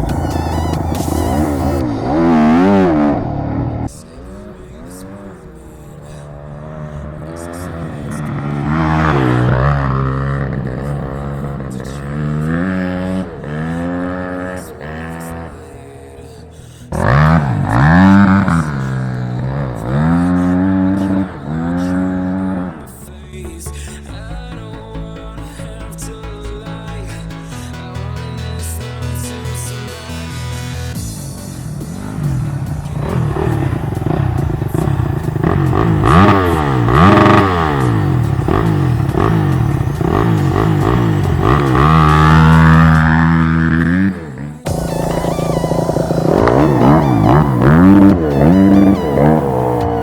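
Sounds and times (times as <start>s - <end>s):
motorcycle engine revving: 0.0s - 27.6s, 29.5s - 50.0s.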